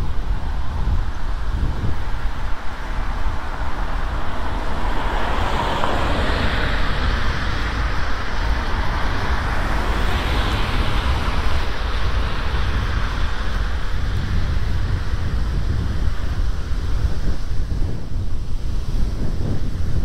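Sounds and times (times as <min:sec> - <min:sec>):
road traffic passing: 0:00.0 - 0:20.0
wind buffeting microphone: 0:00.0 - 0:20.0.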